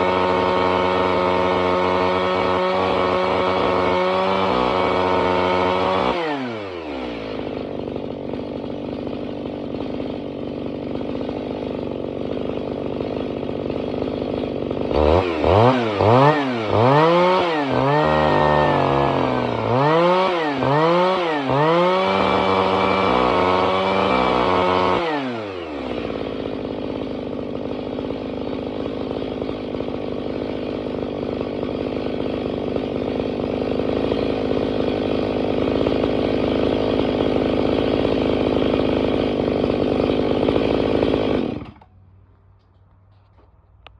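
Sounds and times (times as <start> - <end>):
two-stroke engine cutter revving: 0.0 - 42.0.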